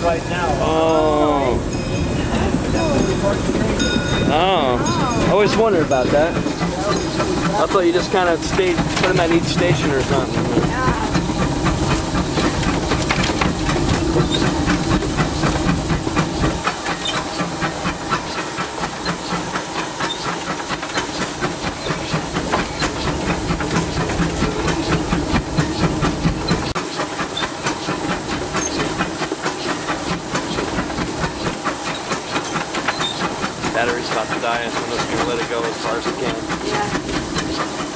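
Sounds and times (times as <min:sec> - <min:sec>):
locomotive rapid regular beats: 0:00.0 - 0:37.9
steam hissing: 0:00.0 - 0:37.9.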